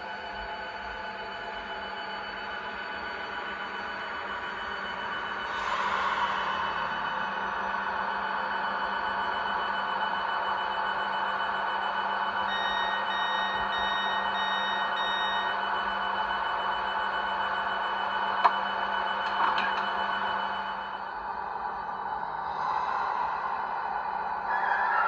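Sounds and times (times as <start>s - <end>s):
electric train hum: 0.0s - 25.0s.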